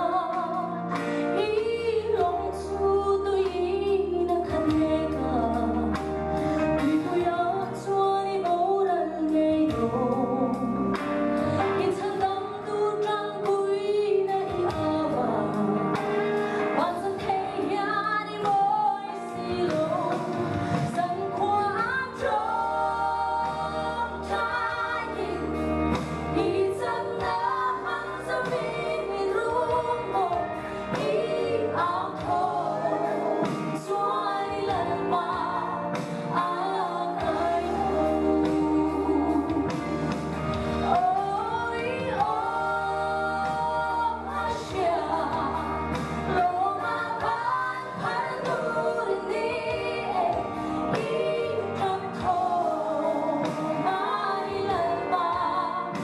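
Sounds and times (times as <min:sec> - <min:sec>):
instrumental accompaniment with bass: 0:00.0 - 0:56.0
woman singing into a microphone: 0:00.0 - 0:56.0.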